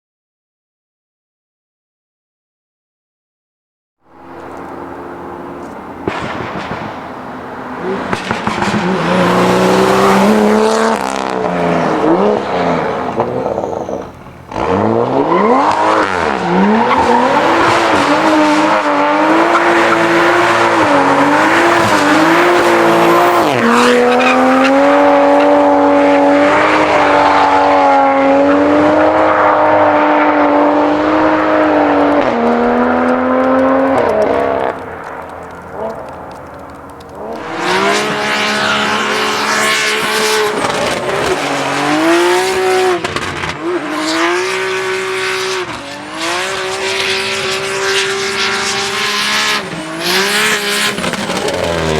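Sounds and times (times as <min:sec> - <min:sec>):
car engine revving hard: 0:04.2 - 0:34.9, 0:37.2 - 0:51.9.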